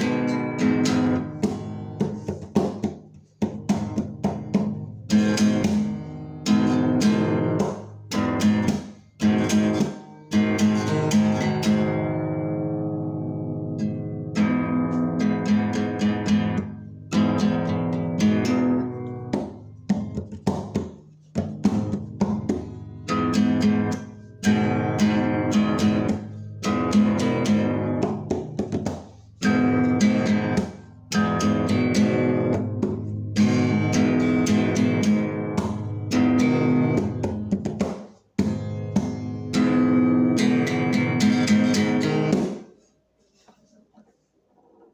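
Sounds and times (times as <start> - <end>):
strummed guitar chords: 0.0 - 42.7.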